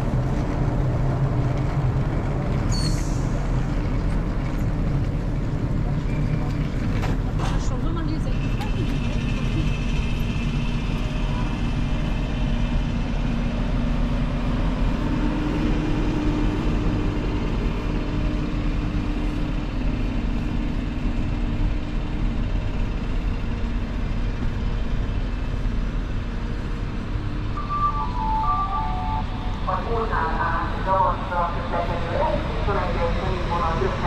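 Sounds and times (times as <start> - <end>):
faint train hum: 0.0 - 34.0
standing train low rumble: 0.0 - 34.0.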